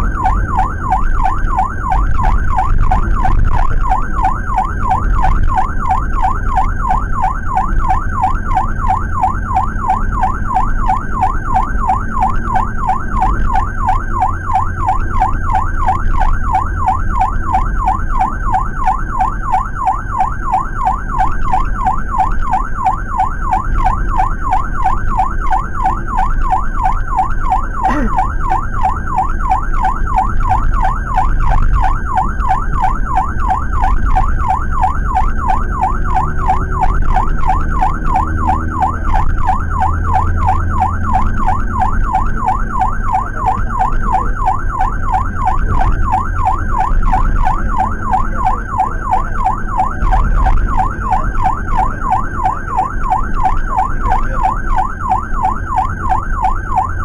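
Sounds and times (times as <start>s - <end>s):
ambulance siren yelping: 0.0s - 57.0s
road rumble: 0.0s - 57.0s
van engine: 0.0s - 57.0s.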